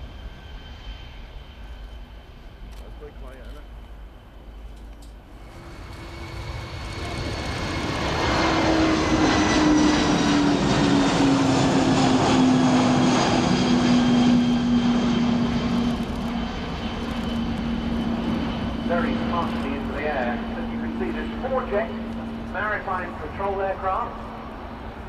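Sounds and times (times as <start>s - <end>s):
jet engines roaring: 0.0s - 25.0s
low jet whine: 0.0s - 25.0s.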